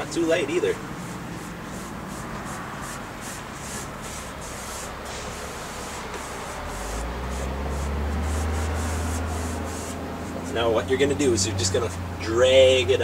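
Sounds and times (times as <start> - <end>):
sponge brush scrubbing canvas: 0.0 - 12.0.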